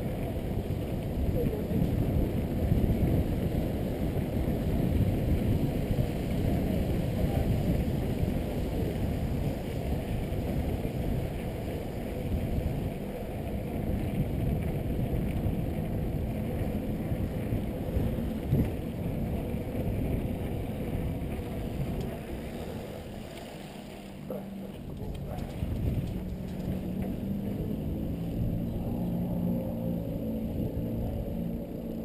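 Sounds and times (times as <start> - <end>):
bike rattling: 0.0 - 32.0
bike tyres rumbling on cobblestones: 0.0 - 32.0.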